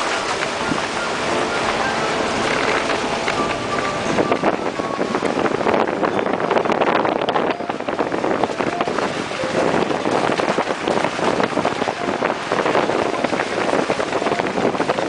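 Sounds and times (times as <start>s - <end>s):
road and wind noise: 0.0s - 15.0s
wind buffeting microphone: 0.0s - 15.0s.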